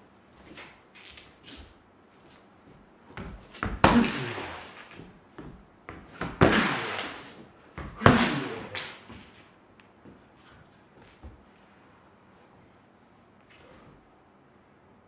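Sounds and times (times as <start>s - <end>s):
light footfalls: 0.0s - 12.8s.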